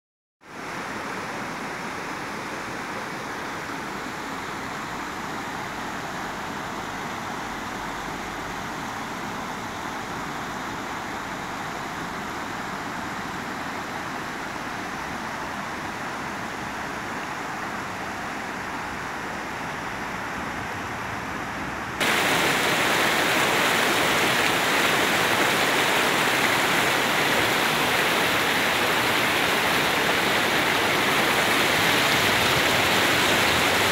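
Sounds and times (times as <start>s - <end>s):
river rapids rushing over rocks: 0.6s - 33.9s.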